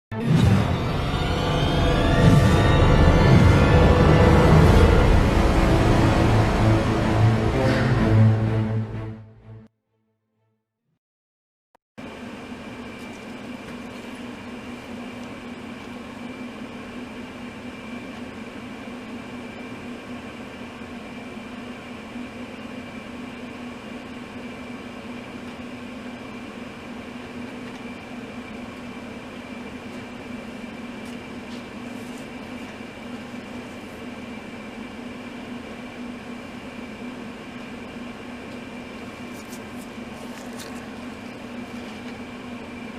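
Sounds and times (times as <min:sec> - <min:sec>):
machine humming and hissing: 0:00.2 - 0:09.0, 0:12.0 - 0:42.9.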